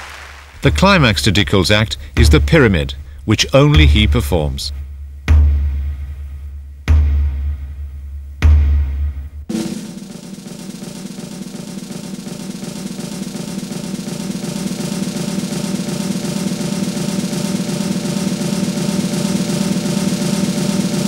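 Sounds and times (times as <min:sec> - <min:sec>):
snare drum roll: 0:00.0 - 0:07.8, 0:08.4 - 0:21.0
bass drum beats: 0:00.5 - 0:21.0.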